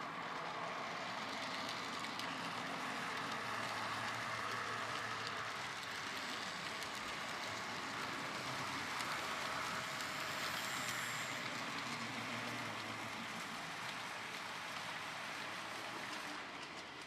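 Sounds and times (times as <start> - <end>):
model train wheels rattling on rail: 0.0 - 17.0.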